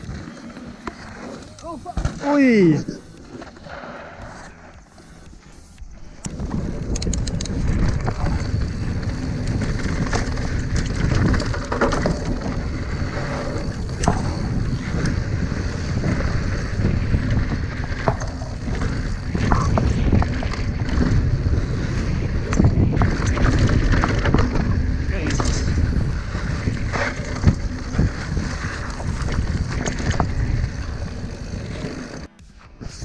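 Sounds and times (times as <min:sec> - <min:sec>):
bike tyres rumbling over dirt: 0:00.0 - 0:33.0
wind on microphone: 0:00.0 - 0:33.0
bike clicks and knocks: 0:03.0 - 0:33.0.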